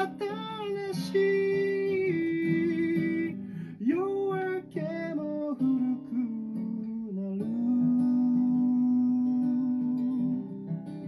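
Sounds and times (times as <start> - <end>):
person singing: 0.0 - 10.6
acoustic guitar: 0.0 - 11.0.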